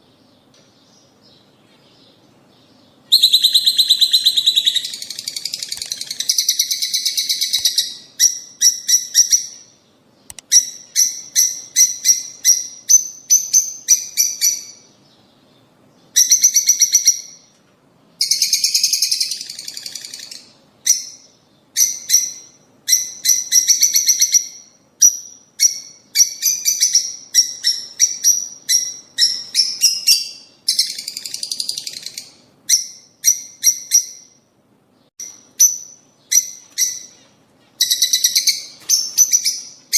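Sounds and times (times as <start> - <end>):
lovebirds chirping: 0.0 - 17.6, 18.2 - 39.9.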